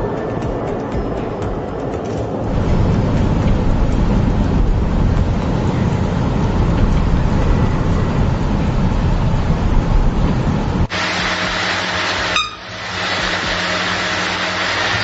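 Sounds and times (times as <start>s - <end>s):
heavy vehicle engine rumble: 0.0s - 15.0s
noisy hiss: 2.4s - 15.0s.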